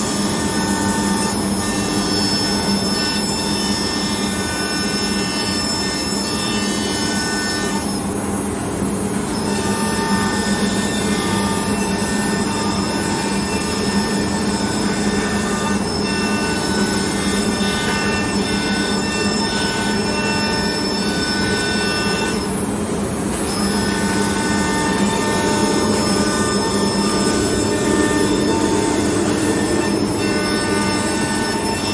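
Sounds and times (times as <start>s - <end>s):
router spindle high whine: 0.0s - 31.9s.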